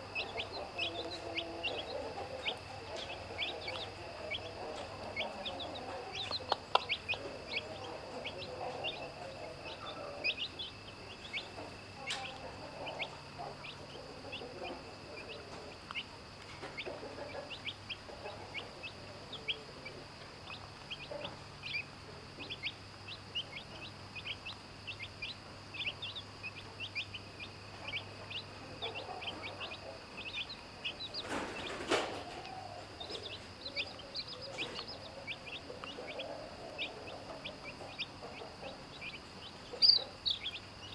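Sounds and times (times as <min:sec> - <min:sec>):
chicks peeping: 0:00.0 - 0:40.9
hen clucking: 0:00.0 - 0:40.9.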